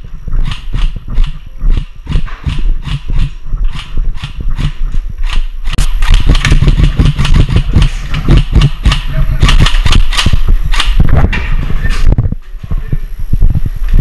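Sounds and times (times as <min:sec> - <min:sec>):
heavy footsteps: 0:00.0 - 0:14.0
steady low rumble: 0:00.0 - 0:14.0.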